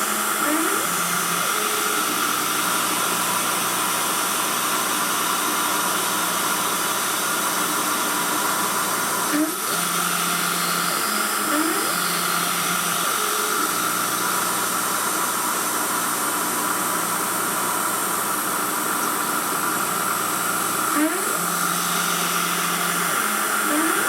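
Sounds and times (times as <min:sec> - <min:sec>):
milling machine motor whine: 0:00.0 - 0:24.0
rising whines of axis drives: 0:00.0 - 0:24.0.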